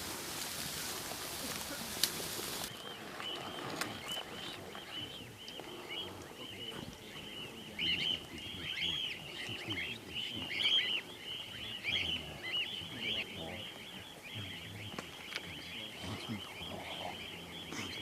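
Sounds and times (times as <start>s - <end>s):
flock of small birds chirping: 0.0s - 18.0s.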